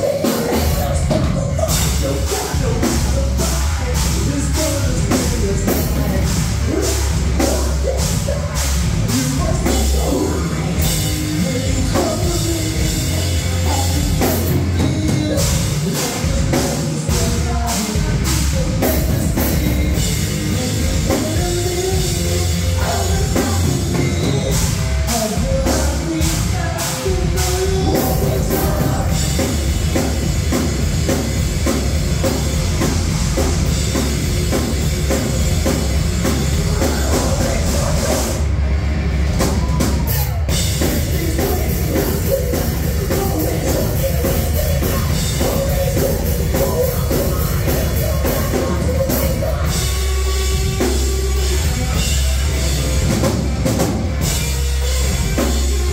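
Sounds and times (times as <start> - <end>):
singer's vocals: 0.0 - 38.6, 39.4 - 55.9
distorted electric guitar: 0.0 - 55.9
drum kit with cymbals: 0.0 - 55.9
electric bass: 0.0 - 55.9.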